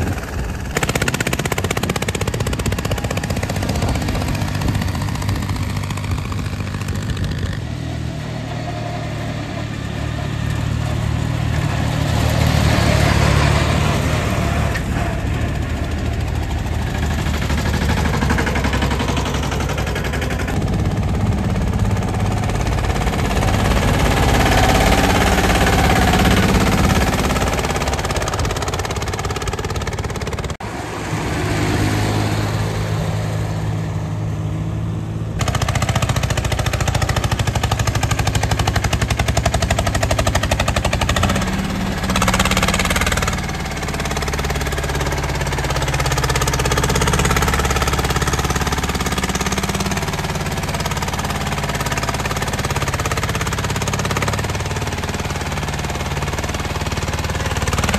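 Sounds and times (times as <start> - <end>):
tractor diesel engine chugging: 0.0 - 34.4, 35.4 - 57.9.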